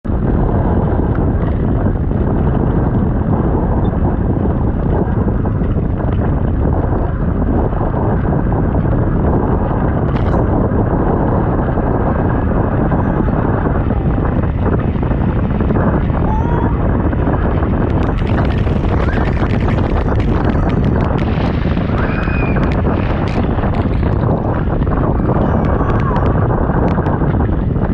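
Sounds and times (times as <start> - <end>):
wind rushing over microphone: 0.0 - 27.9
wheels rolling on sand: 0.1 - 27.9.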